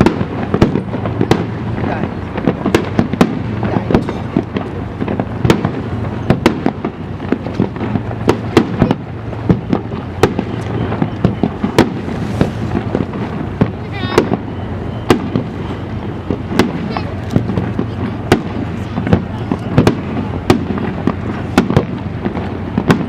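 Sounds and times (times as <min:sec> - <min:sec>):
fireworks bangs: 0:00.0 - 0:23.0
steady low rumble: 0:00.0 - 0:23.0.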